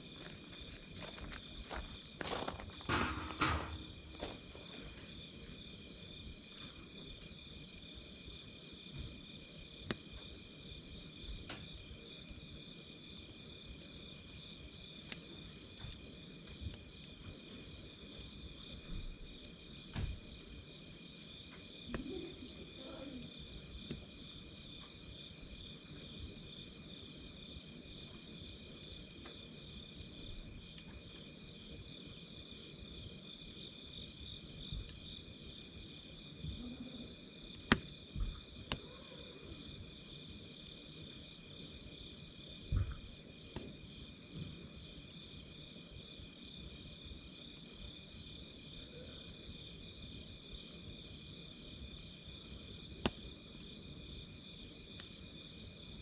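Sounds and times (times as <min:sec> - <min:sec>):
campfire crackling and popping: 0:00.0 - 0:48.8, 0:49.6 - 0:56.0
crickets chirping: 0:00.0 - 0:56.0.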